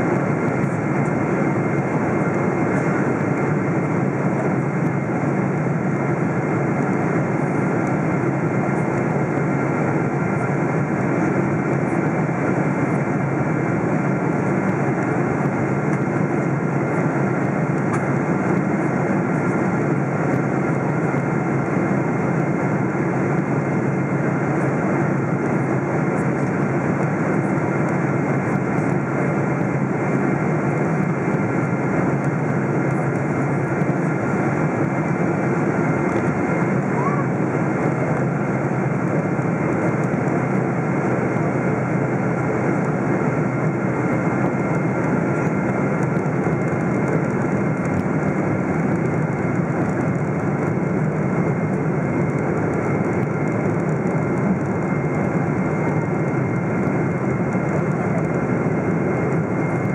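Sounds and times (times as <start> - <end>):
faint steady whine: 0.0 - 59.9
jet engines humming in cabin: 0.0 - 59.9.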